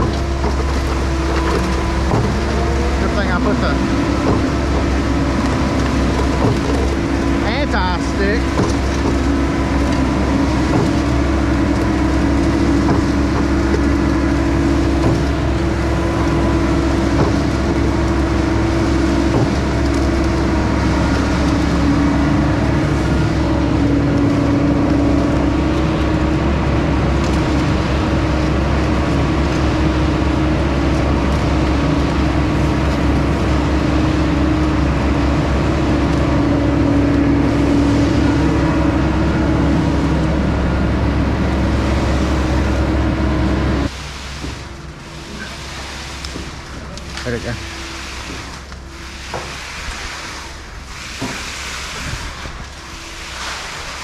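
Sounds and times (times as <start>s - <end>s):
concrete mixer truck: 0.0s - 54.0s
skid steer engine running: 0.0s - 54.0s.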